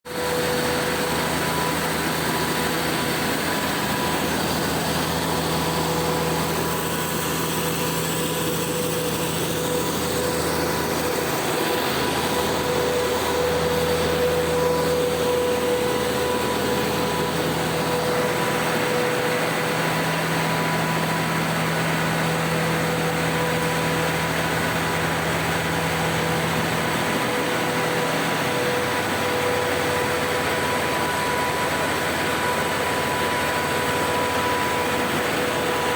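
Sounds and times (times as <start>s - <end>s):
wood chipper running: 0.1s - 35.9s.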